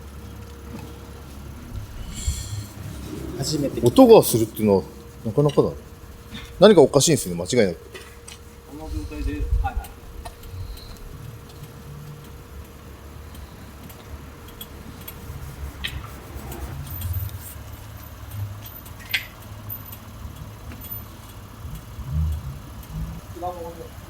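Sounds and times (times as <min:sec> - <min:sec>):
car engine low rumble: 0:00.0 - 0:24.0.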